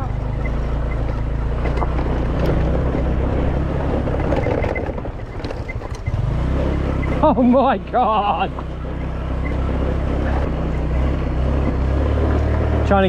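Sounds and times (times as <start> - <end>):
motor scooter engine running: 0.0 - 13.0.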